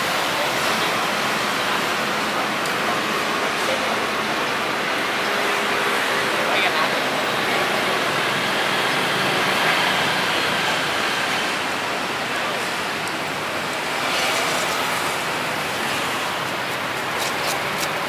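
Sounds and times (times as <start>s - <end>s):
motorbikes and cars passing: 0.0s - 18.0s.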